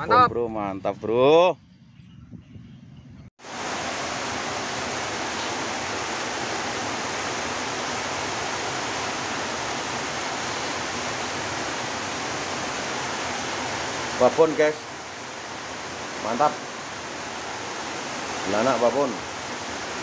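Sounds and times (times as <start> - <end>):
steady hiss: 3.4 - 20.0.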